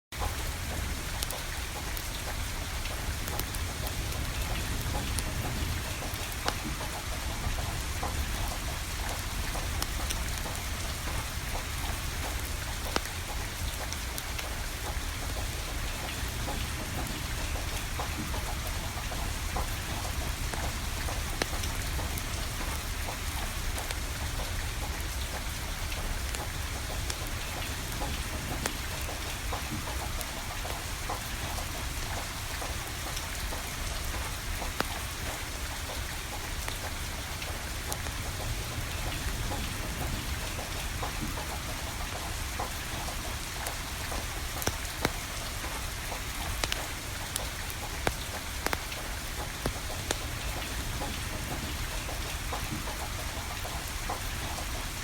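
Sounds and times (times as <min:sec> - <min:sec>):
steady rain falling: 0:00.1 - 0:55.0
wood fire crackling: 0:00.3 - 0:06.7, 0:17.3 - 0:55.0.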